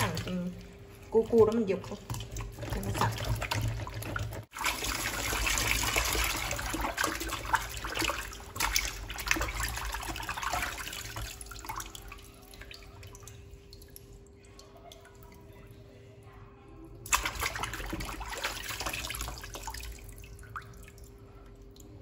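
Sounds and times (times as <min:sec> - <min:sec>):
water dripping: 0:00.0 - 0:15.8, 0:16.9 - 0:22.0
water sloshing in a plastic basin: 0:00.0 - 0:16.0, 0:16.9 - 0:22.0.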